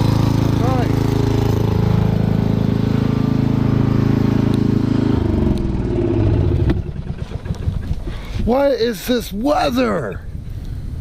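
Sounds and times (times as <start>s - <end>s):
lawnmower engine running: 0.0s - 9.4s.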